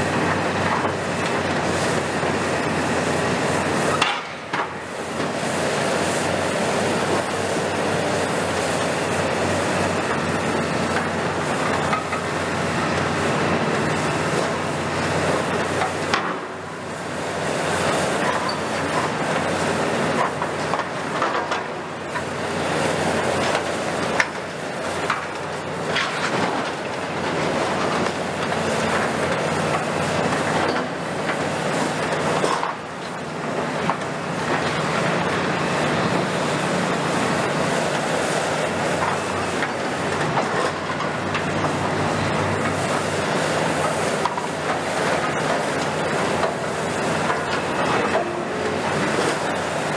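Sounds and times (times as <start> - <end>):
excavator engine and hydraulics: 0.0 - 49.9.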